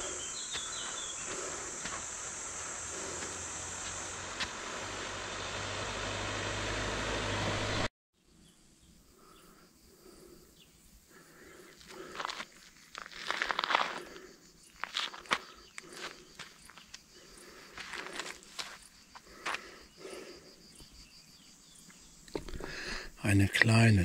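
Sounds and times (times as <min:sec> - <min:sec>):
insects chirring: 0:00.0 - 0:06.6, 0:08.4 - 0:24.0.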